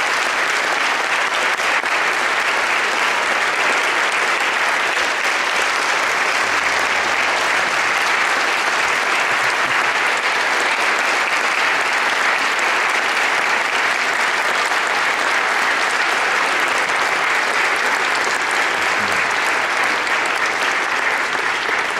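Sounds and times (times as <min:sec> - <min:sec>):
crowd applause: 0:00.0 - 0:21.9.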